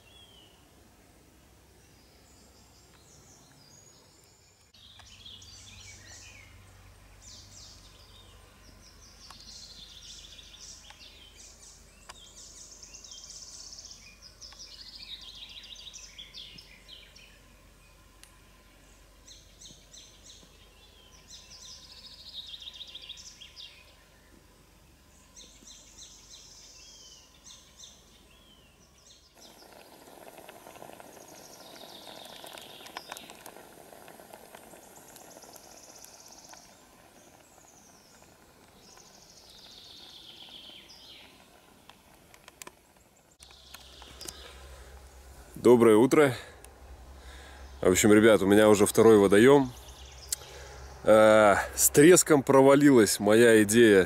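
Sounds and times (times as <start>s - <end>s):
songbirds singing: 0.0s - 54.0s
steady hiss: 0.0s - 54.0s.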